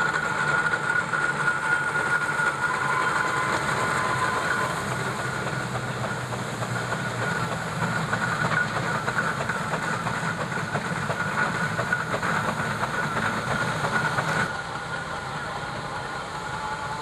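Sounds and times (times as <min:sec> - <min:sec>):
steam traction engine clattering: 0:00.0 - 0:17.0.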